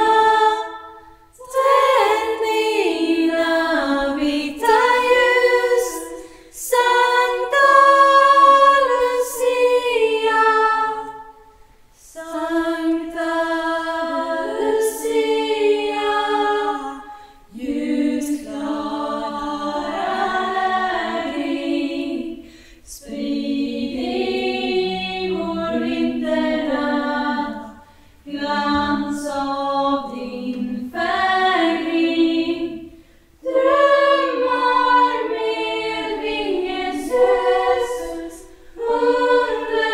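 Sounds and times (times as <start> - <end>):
female choir singing a cappella: 0.0 - 39.9.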